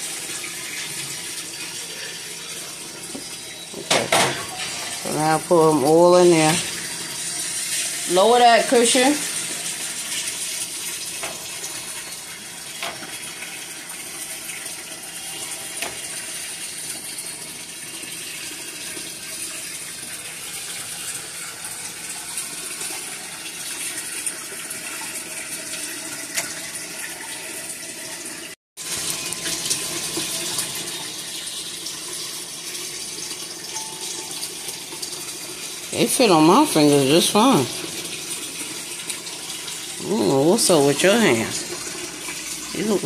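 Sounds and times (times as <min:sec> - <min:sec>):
faucet running into metal sink: 0:00.0 - 0:43.0.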